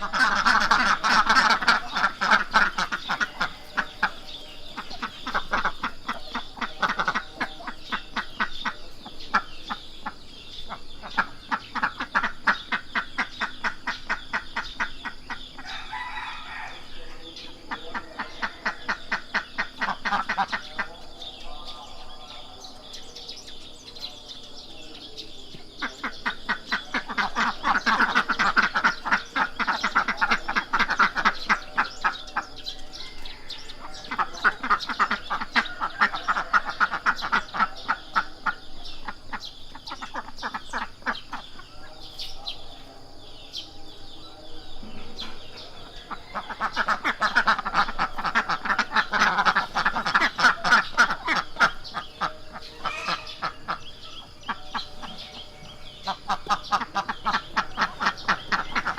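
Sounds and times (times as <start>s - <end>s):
ducks quacking: 0.0s - 58.9s.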